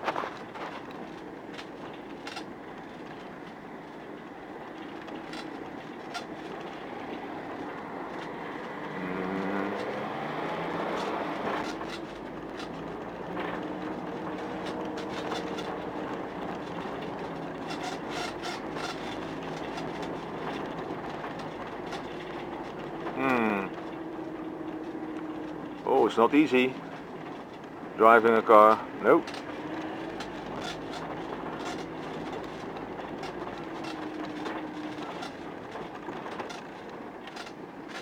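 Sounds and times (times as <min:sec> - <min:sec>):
vehicle engine running: 0:00.0 - 0:38.0
vehicle whine: 0:00.0 - 0:38.0.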